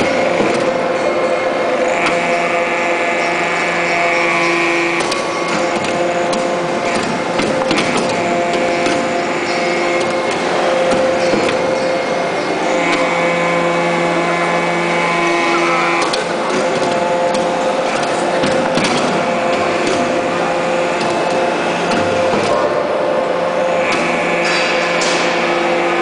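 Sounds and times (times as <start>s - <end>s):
hydraulic press machine whine: 0.0s - 26.0s
low machine tone: 0.0s - 26.0s.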